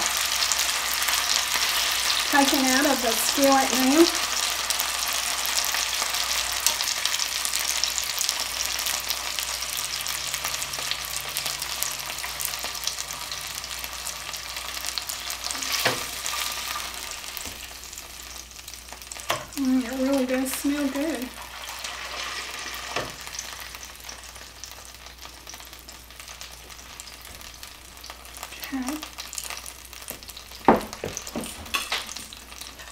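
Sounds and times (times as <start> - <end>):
chicken sizzling in hot oil: 0.0 - 32.9.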